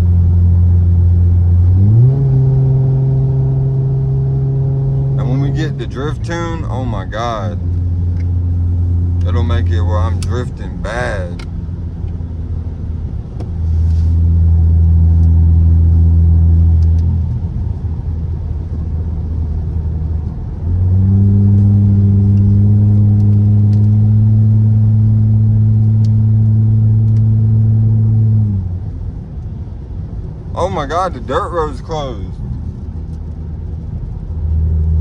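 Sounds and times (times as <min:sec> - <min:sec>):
car exhaust droning under throttle: 0:00.0 - 0:35.0.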